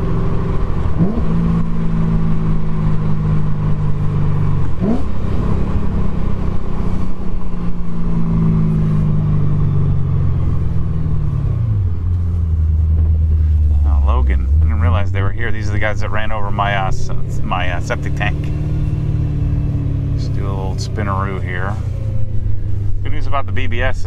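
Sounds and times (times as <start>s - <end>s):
car engine from inside cabin: 0.0s - 24.0s.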